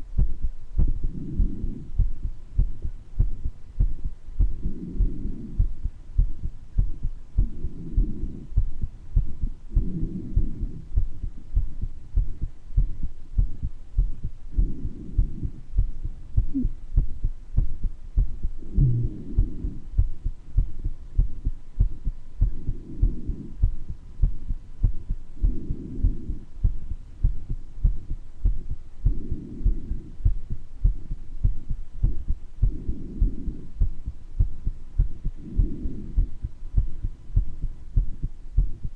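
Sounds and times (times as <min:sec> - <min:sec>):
heartbeat thumping: 0:00.0 - 0:38.9
breath noise: 0:00.2 - 0:38.9.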